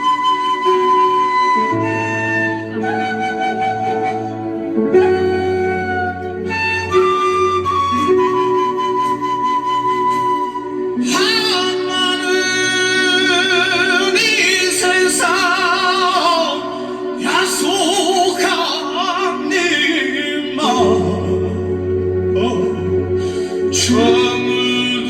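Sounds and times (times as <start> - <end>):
slow sung melody with vibrato: 0.0 - 25.0.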